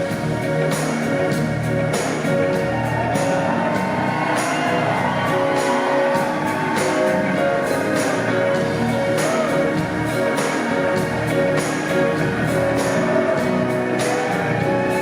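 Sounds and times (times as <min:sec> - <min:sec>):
live band music: 0:00.0 - 0:15.0
steady drum beat: 0:00.0 - 0:15.0.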